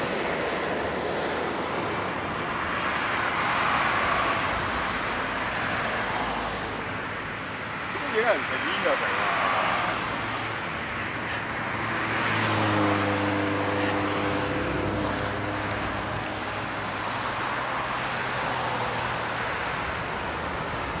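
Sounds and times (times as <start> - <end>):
tyre noise from passing cars: 0.0 - 21.0
vehicle engine hum: 0.0 - 21.0.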